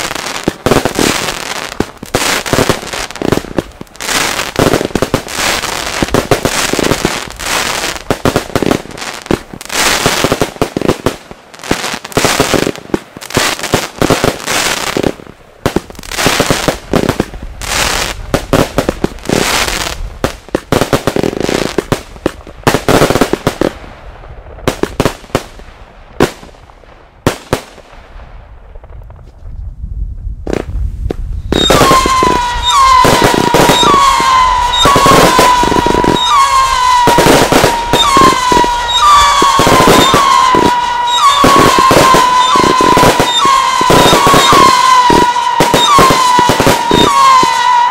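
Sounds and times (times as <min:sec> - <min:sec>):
fireworks banging and crackling: 0:00.0 - 0:47.9.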